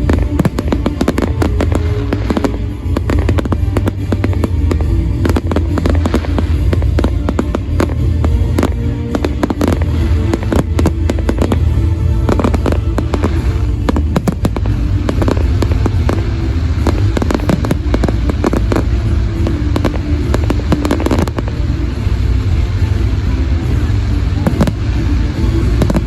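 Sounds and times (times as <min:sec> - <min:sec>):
fireworks bangs and crackles: 0:00.0 - 0:26.0
heavy low rumble: 0:00.0 - 0:26.0
music over loudspeakers: 0:00.0 - 0:26.0.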